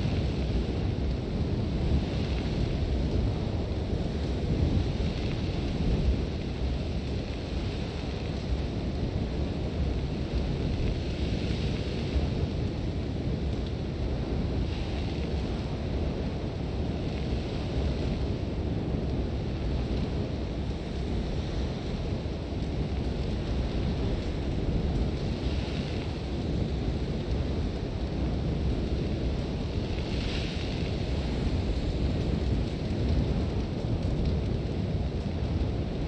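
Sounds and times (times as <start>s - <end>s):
sandstorm wind blowing hard: 0.0s - 36.0s.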